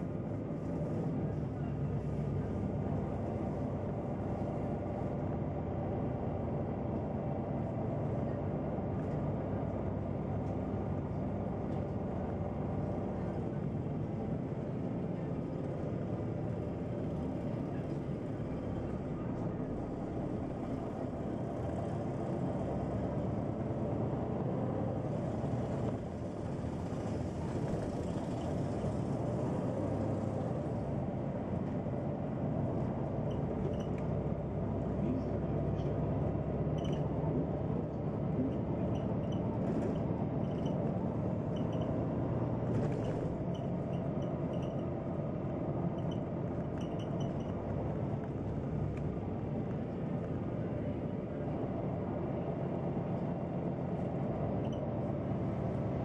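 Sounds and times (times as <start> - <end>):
bus engine and drivetrain hum: 0.0 - 56.0
road noise: 0.0 - 56.0.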